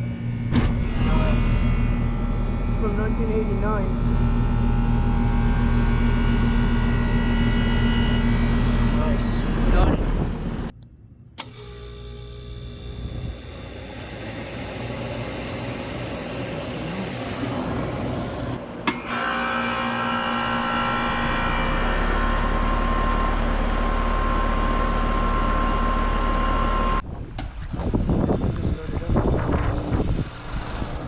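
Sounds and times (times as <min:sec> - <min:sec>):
air conditioner unit humming: 0:00.0 - 0:27.0.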